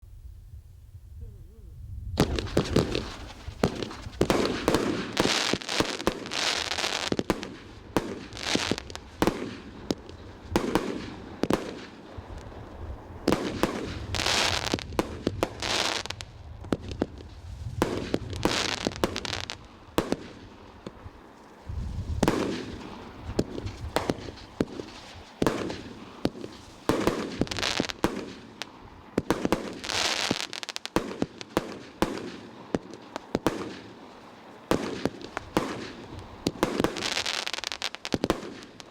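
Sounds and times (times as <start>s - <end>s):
fireworks banging and crackling: 2.2s - 38.9s.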